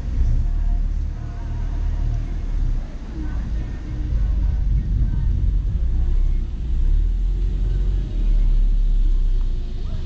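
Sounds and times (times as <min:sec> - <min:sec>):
car engine low rumble: 0:00.0 - 0:10.0
road noise: 0:00.0 - 0:10.0.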